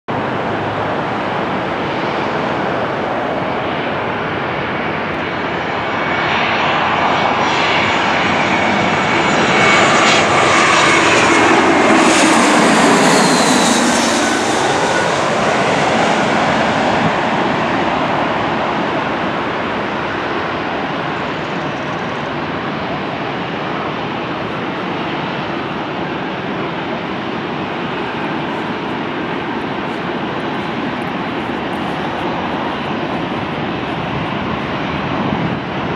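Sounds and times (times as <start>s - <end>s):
jet airliner passing overhead: 0.1s - 35.9s.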